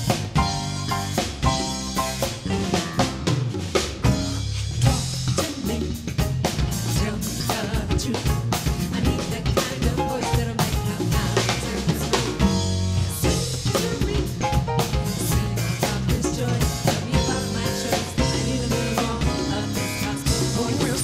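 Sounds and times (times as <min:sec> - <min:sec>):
drum kit beat: 0:00.0 - 0:21.0
live gospel band playing: 0:00.0 - 0:21.0.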